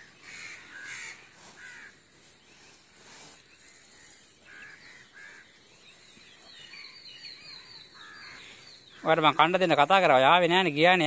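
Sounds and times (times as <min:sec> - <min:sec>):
short bird calls: 0:00.0 - 0:09.4.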